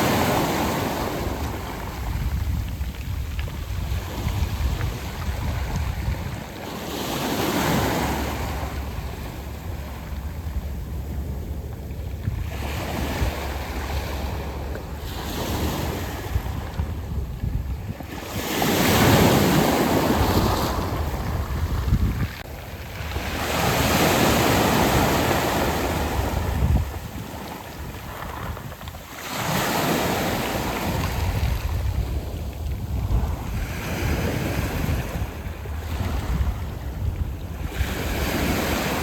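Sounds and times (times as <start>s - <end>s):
waves washing over pebbles: 0.0s - 39.0s
wind rumble on microphone: 0.0s - 39.0s.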